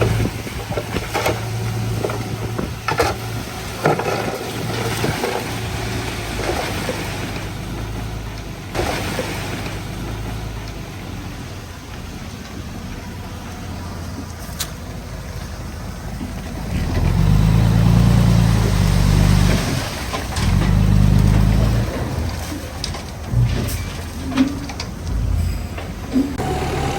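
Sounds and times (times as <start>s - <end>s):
heavy diesel engine running: 0.0s - 26.9s.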